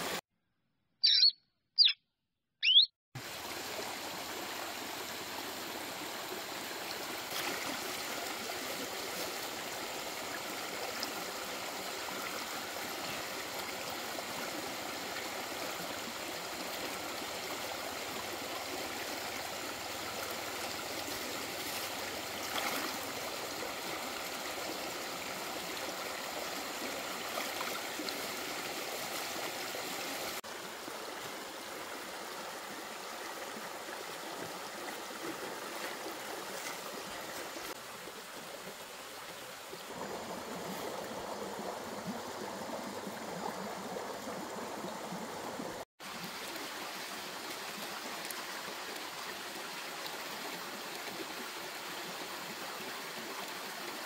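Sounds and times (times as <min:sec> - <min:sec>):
stream water running: 0:02.7 - 0:54.0.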